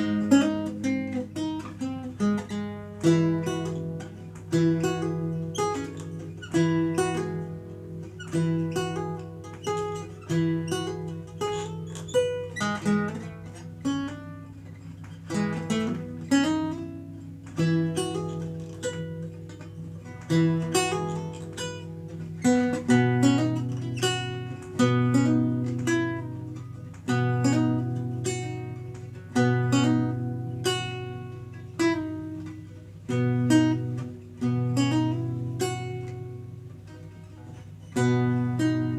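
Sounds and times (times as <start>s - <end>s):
lute plucked chords and notes: 0.0s - 38.9s.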